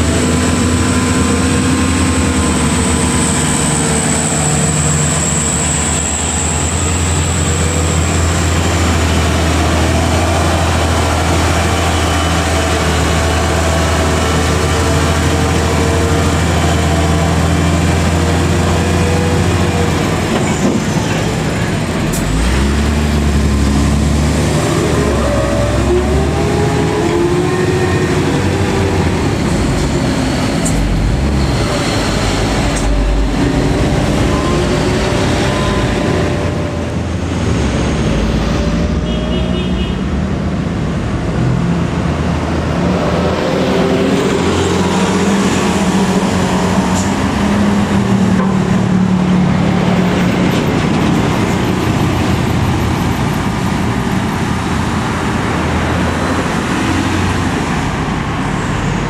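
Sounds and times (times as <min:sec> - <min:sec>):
road noise: 0:00.0 - 0:59.0
vehicle engine: 0:00.0 - 0:59.0.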